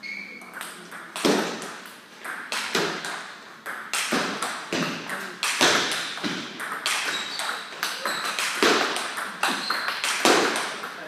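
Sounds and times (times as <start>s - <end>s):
table tennis ball knocks: 0.4s - 11.0s.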